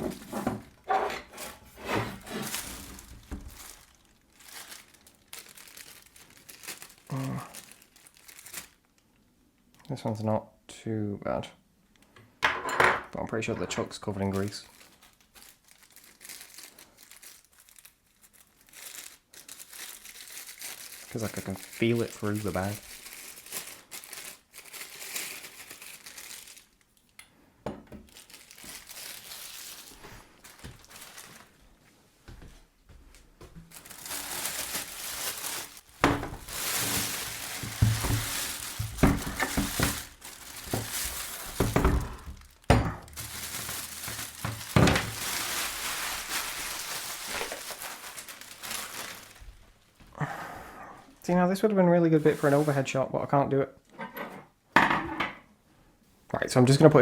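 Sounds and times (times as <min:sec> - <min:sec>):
plastic bags crinkling: 0:00.0 - 0:09.9, 0:13.4 - 0:27.2, 0:27.9 - 0:32.4, 0:33.1 - 0:50.1, 0:51.2 - 0:53.0.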